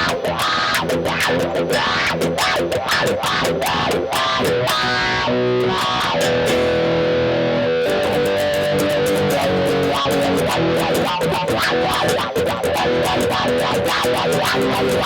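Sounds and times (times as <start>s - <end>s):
electric guitar strumming chords: 0.0s - 15.0s.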